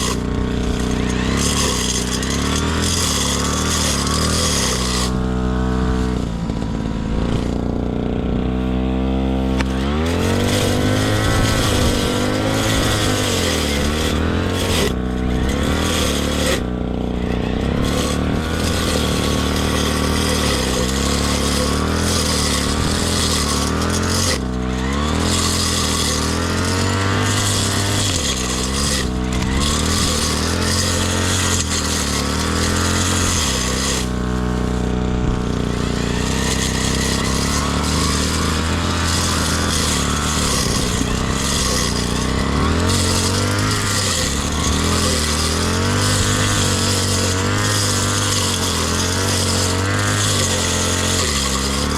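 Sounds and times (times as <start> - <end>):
mower engine running: 0.0 - 51.9.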